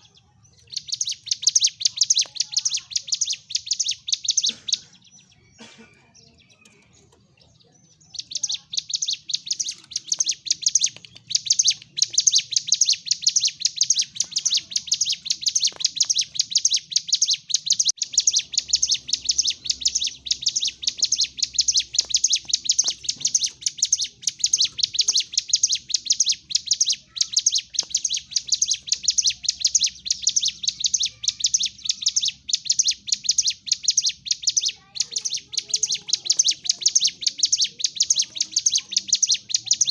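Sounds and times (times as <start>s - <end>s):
bird rapid high chirps: 0.0s - 39.9s.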